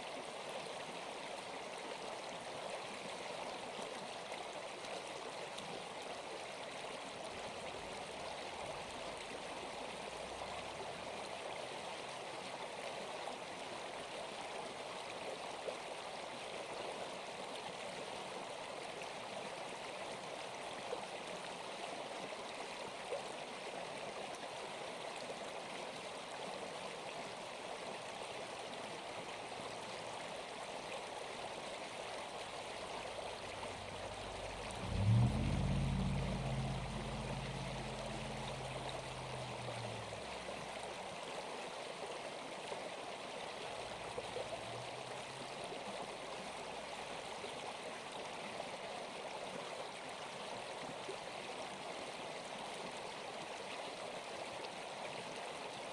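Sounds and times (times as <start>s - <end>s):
flowing water rushing: 0.0s - 55.9s.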